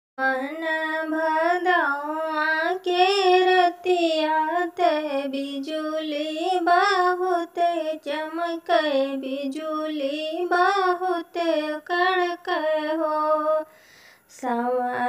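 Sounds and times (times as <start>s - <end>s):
woman singing folk song: 0.2s - 15.0s.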